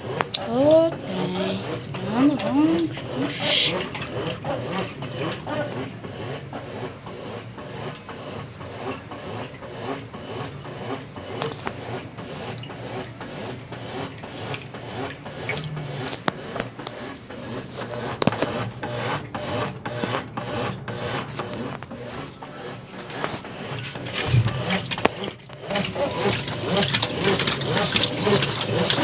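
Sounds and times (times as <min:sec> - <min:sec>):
washing machine agitator churning: 0:00.0 - 0:29.0.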